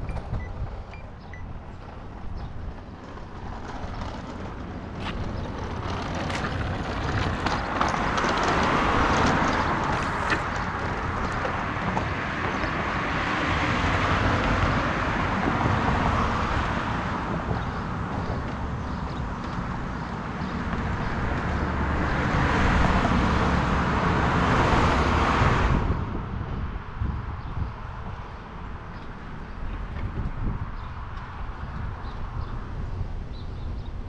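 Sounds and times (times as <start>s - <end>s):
cars and tyres passing: 0.0s - 34.0s.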